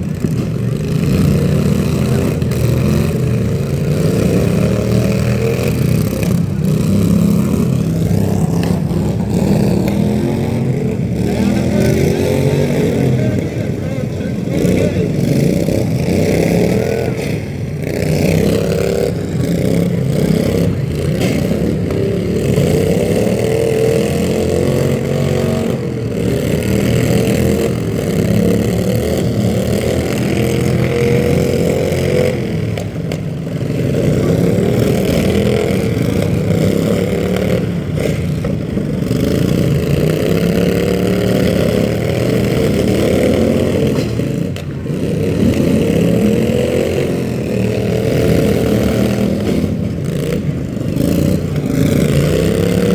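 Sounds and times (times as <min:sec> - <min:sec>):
vehicle engines revving: 0:00.0 - 0:52.9.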